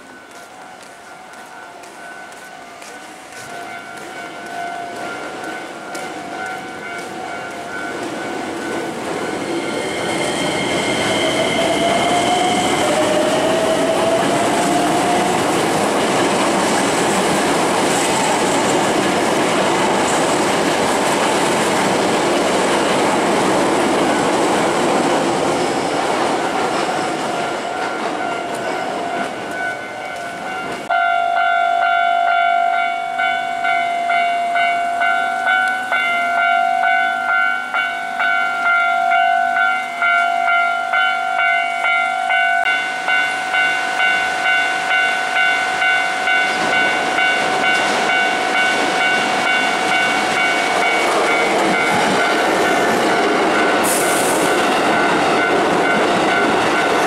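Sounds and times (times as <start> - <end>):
level crossing warning bell: 0.0 - 20.9, 26.4 - 57.0
train wheels on rails: 0.0 - 57.0.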